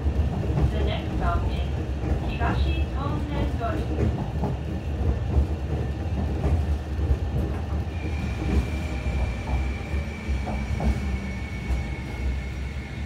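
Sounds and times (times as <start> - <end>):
tram running gear rumble: 0.0 - 13.0.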